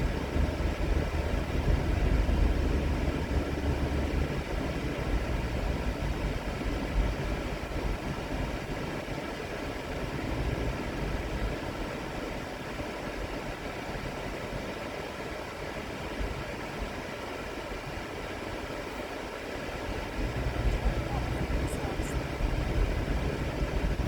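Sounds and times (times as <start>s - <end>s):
vehicle engine rumbling: 0.0s - 15.0s, 15.7s - 24.0s
constant noise haze: 0.0s - 24.0s.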